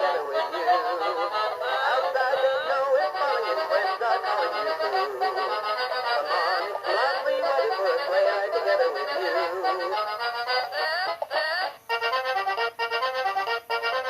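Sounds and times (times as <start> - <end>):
tinny backing music: 0.0 - 14.0
toy singing in electronic voice: 0.0 - 14.0.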